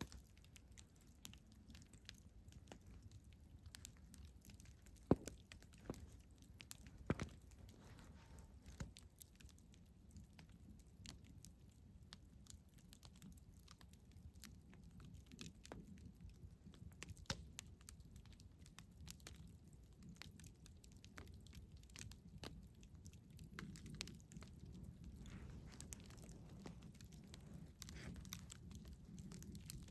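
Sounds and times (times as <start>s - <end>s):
campfire crackling: 0.0s - 29.9s
low fire rumble: 0.0s - 29.9s.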